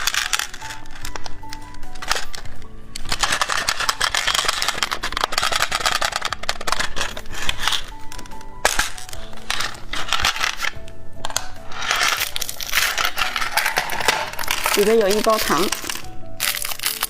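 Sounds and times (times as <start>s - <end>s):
background music: 0.0s - 17.0s
packaging crinkling: 0.0s - 17.0s.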